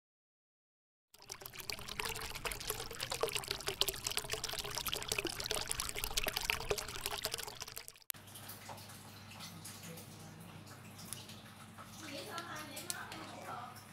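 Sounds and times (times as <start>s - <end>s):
water pouring: 1.2s - 13.9s.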